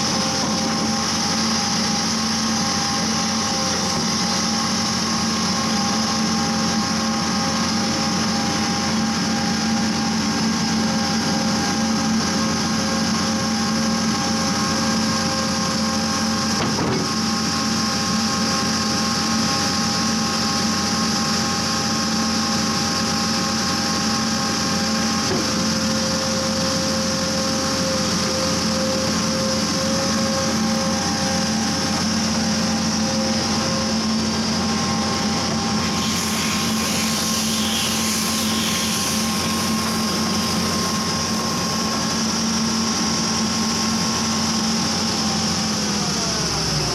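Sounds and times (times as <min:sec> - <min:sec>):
drilling machine droning: 0:00.0 - 0:46.9.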